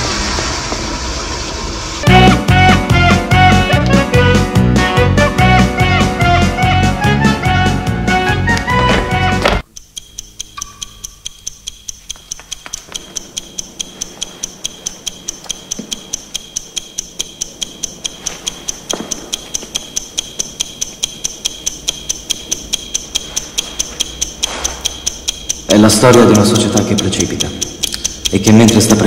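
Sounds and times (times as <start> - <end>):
clock ticking fast: 2.0 - 29.0.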